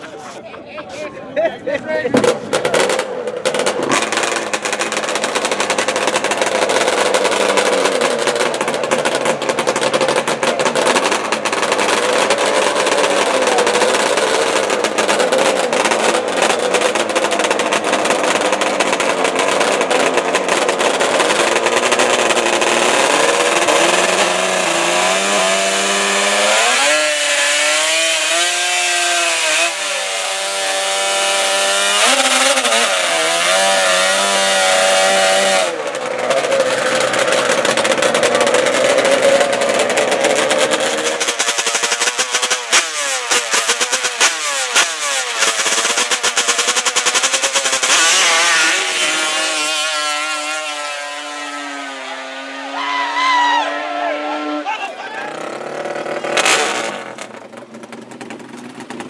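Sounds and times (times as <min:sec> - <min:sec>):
racing atv engines revving: 0:00.0 - 0:59.0.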